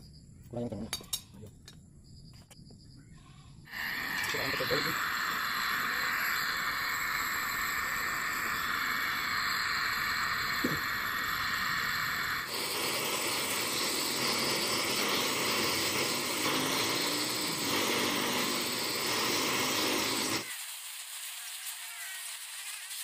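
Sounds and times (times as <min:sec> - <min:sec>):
welding torch flame hissing: 0:03.7 - 0:23.0.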